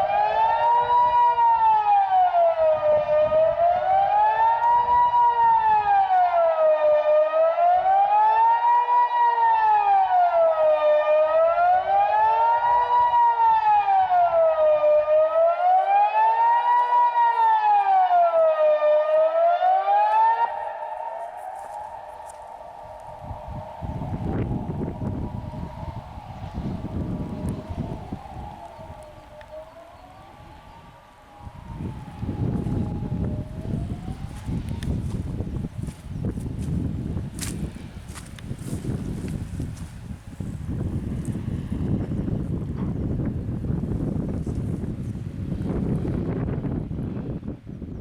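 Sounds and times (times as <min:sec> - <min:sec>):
rising and falling siren wail: 0:00.0 - 0:42.7.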